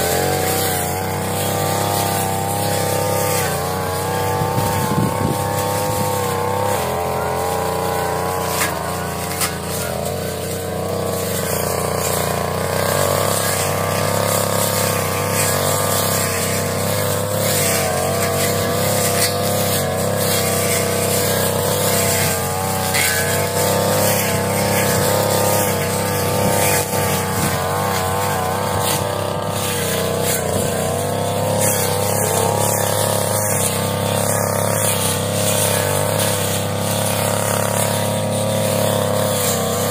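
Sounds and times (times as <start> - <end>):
brush cutter engine high revs: 0.0 - 39.9.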